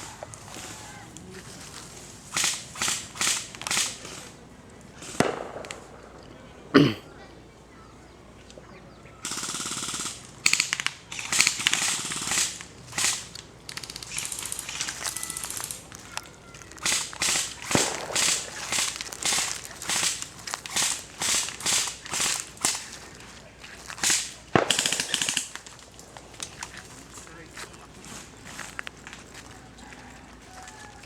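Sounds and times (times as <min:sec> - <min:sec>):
airsoft guns firing: 0:00.0 - 0:06.9, 0:09.2 - 0:29.4.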